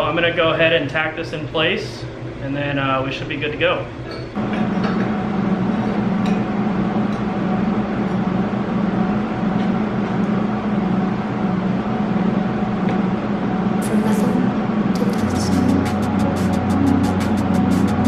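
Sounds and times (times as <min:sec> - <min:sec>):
welding set buzzing hum: 0:00.0 - 0:18.0.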